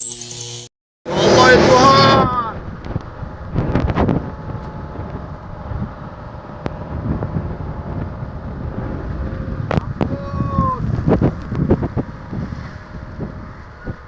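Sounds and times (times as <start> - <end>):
wind buffeting microphone: 2.5 - 14.0.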